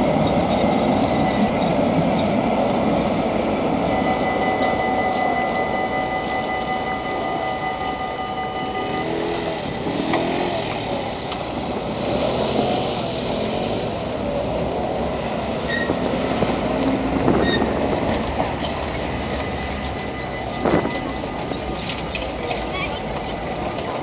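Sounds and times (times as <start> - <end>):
bicycles passing: 0.0 - 24.0
traffic hum: 0.0 - 24.0.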